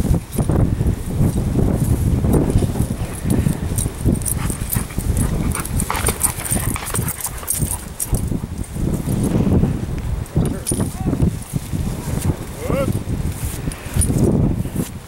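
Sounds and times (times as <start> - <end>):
low microphone rumble: 0.0 - 15.0
rustling brush: 0.0 - 15.0
footsteps: 1.2 - 15.0.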